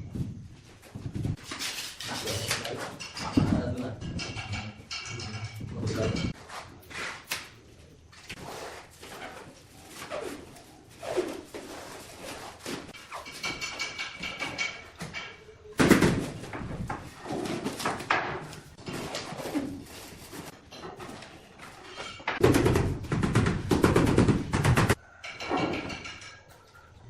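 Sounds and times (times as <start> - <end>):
tiling knocks and scrapes: 0.2 - 7.5, 8.1 - 26.8.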